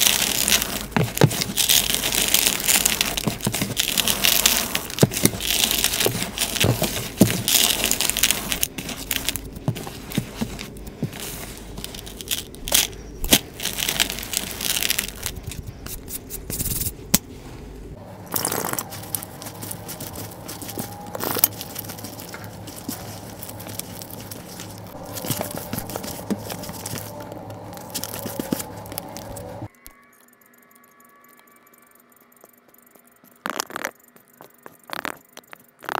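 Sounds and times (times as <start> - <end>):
hands crunching chalk powder: 0.0 - 17.5, 18.3 - 29.7, 33.4 - 35.9.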